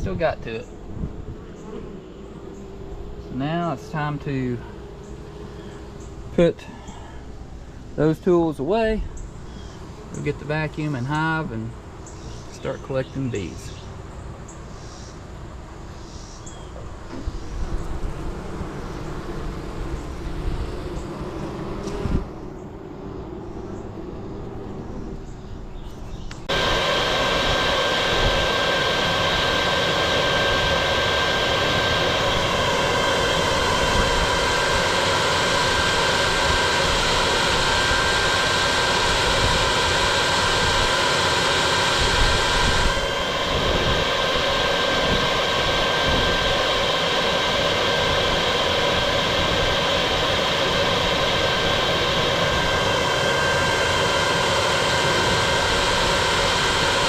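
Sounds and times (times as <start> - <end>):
vacuum whining: 0.0 - 13.8, 15.0 - 57.0.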